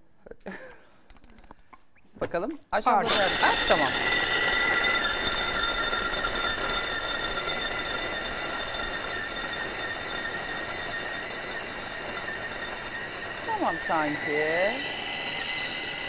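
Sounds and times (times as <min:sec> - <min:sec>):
food chopper motor whine: 0:03.0 - 0:16.0.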